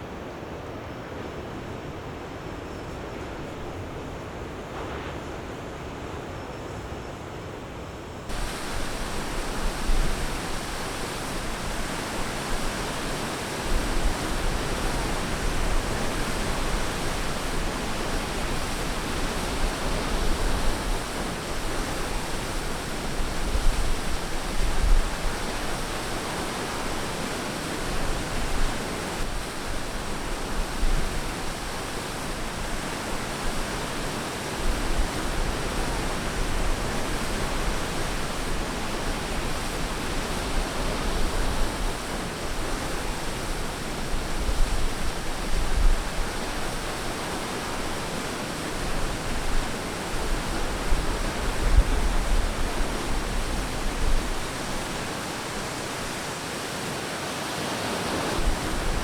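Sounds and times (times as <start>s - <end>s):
waves breaking on beach: 8.3s - 59.0s.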